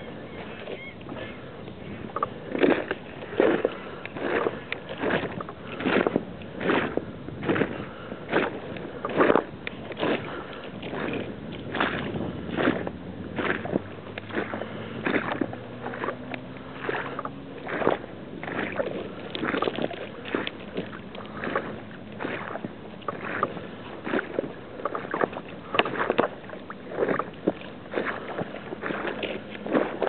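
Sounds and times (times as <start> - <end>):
footsteps crunching on frozen snow: 0.0 - 30.0.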